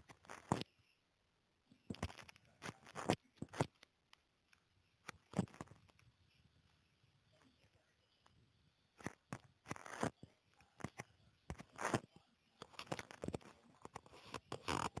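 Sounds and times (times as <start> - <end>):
faint rustling and crunching: 0.0 - 1.0, 1.6 - 15.0.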